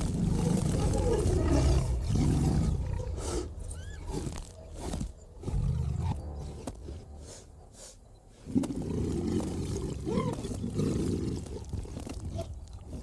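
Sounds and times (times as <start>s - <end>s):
deep animal growls: 0.0s - 7.4s, 8.4s - 13.0s.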